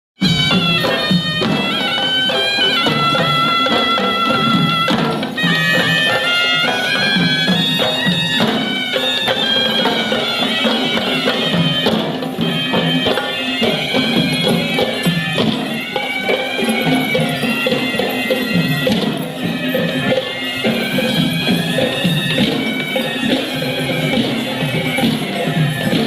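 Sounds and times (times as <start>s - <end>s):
drum strokes: 0.2s - 26.0s
shrill reed pipe melody: 0.2s - 26.0s.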